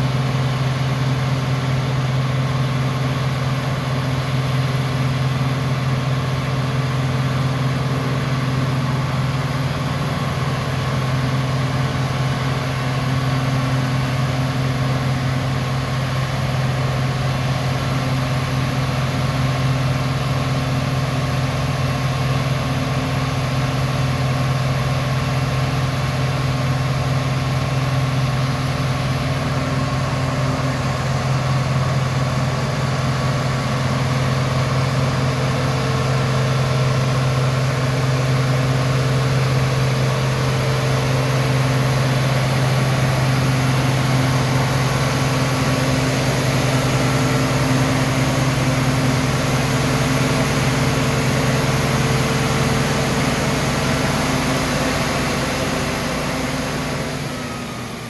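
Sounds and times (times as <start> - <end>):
diesel generator engine droning: 0.0 - 58.0.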